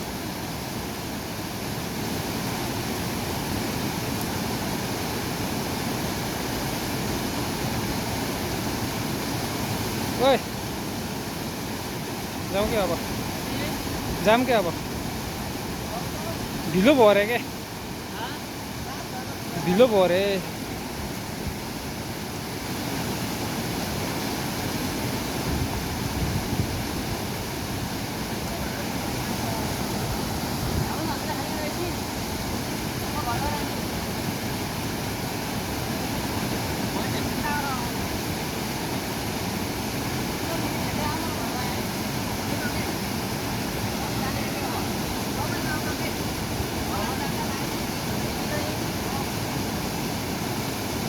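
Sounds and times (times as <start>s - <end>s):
fast-flowing river: 0.0s - 51.0s.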